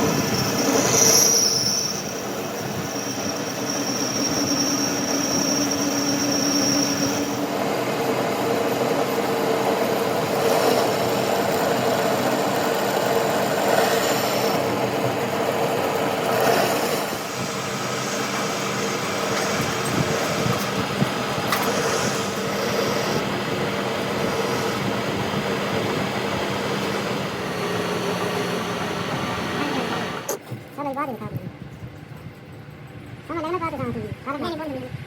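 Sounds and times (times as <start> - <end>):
workshop machinery running: 0.0 - 30.4.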